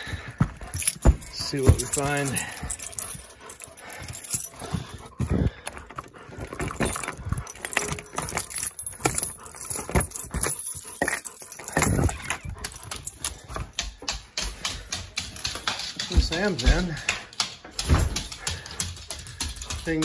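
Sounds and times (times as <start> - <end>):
dog noises: 0.0 - 20.0
keys and door knob rattling: 0.0 - 20.0.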